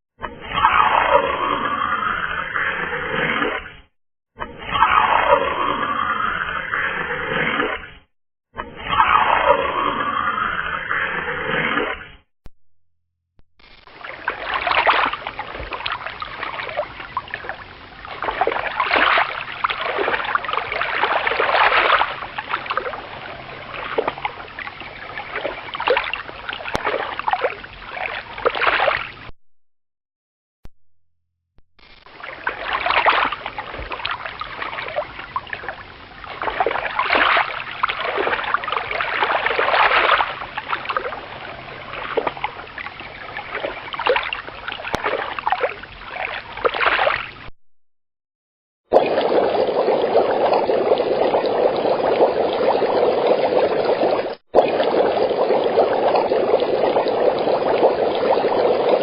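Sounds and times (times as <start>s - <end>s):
water splashing and sloshing: 0.2s - 12.3s, 13.6s - 29.3s, 31.8s - 47.5s, 48.9s - 59.0s.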